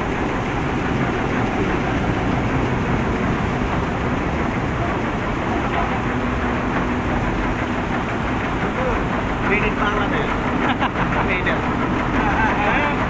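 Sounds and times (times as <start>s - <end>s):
tea-grading machine running: 0.0s - 13.0s.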